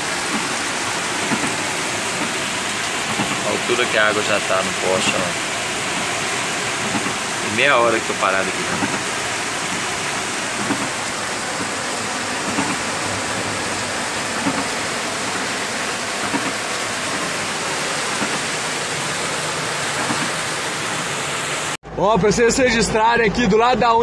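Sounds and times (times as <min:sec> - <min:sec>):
floodwater rushing: 0:00.0 - 0:21.8
heavy rain: 0:00.0 - 0:21.8.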